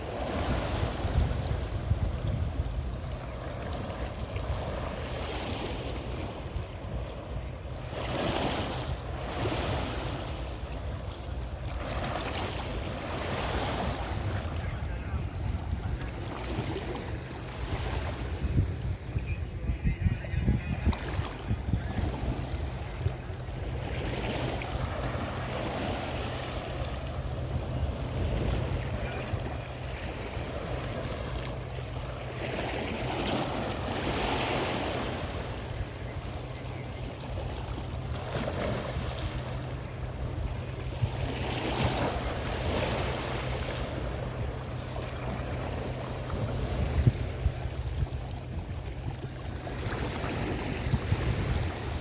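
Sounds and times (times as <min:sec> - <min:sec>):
sea waves breaking: 0:00.0 - 0:52.0
wind rumble on microphone: 0:00.0 - 0:52.0.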